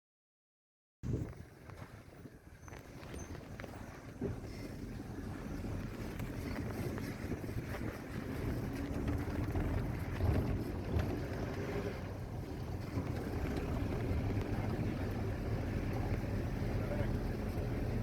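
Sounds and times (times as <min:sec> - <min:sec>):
wind buffeting microphone: 0:01.0 - 0:18.0.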